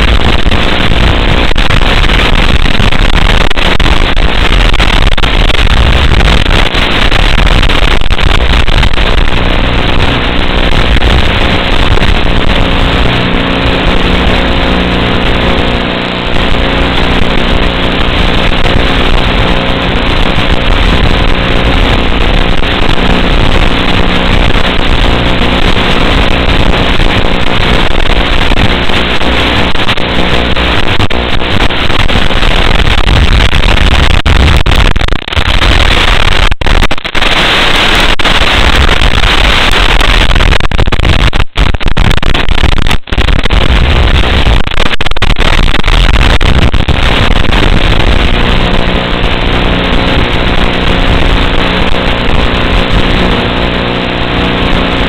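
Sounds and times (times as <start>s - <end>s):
static hiss and buzz: 0.0s - 55.0s.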